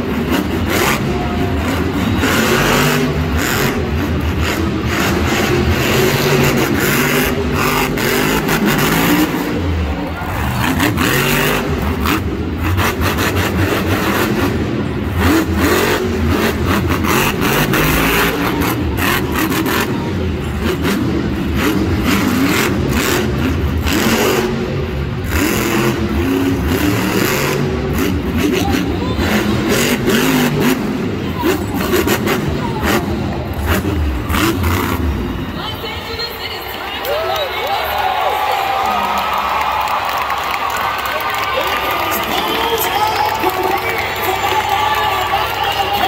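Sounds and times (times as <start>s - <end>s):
truck engine revving: 0.0s - 36.8s, 39.1s - 46.0s.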